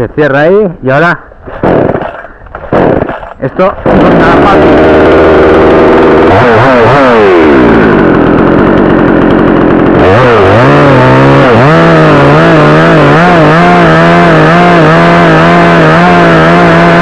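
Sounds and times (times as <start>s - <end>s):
chainsaw engine revving: 1.0s - 17.0s.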